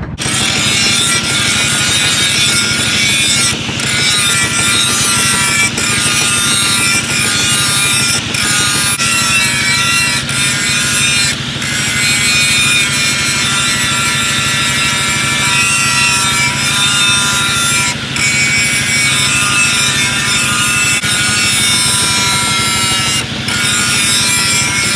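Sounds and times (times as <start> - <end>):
angle grinder grinding steel: 0.0 - 24.9.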